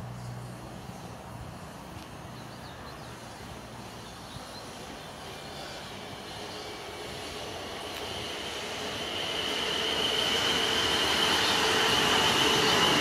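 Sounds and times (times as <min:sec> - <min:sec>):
distant electric train rumble: 0:00.0 - 0:13.0
faint steady whine: 0:00.0 - 0:13.0.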